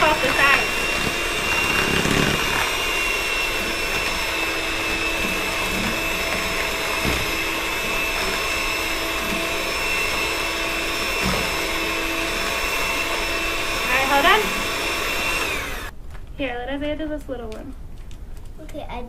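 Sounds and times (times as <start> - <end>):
electric hand mixer running: 0.0 - 15.9.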